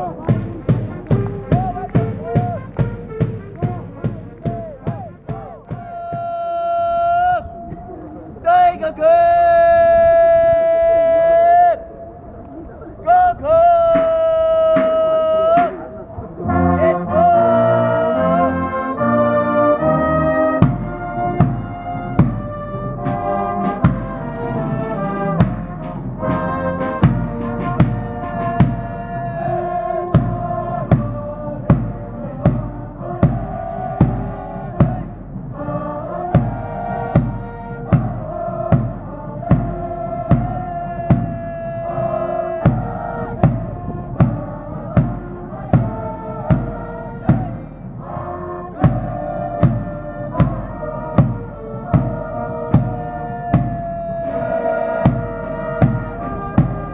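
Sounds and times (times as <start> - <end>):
brass band playing: 0.0 - 7.8, 13.6 - 56.9
drum beating steadily: 0.0 - 8.0, 13.5 - 17.4, 20.5 - 56.9.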